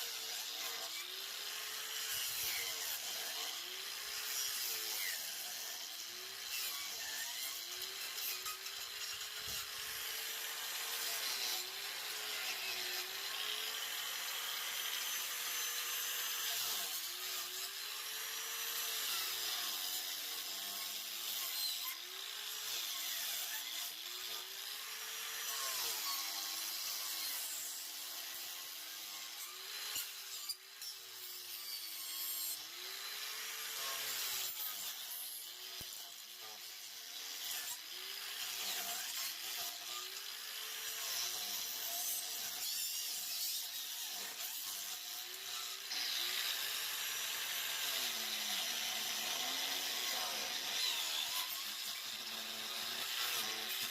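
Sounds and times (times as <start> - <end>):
angle grinder whining: 0.0 - 53.9.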